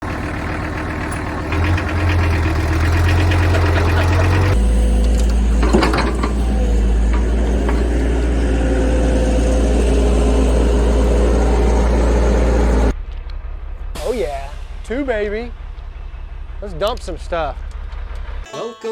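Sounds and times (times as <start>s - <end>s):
heavy equipment engine rumbling: 0.0s - 18.4s.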